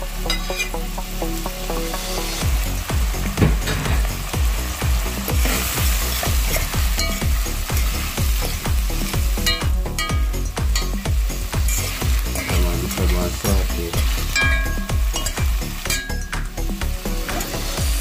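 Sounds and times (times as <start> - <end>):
food sizzling in a pot: 0.0 - 18.0
music with steady bass beat: 0.0 - 18.0.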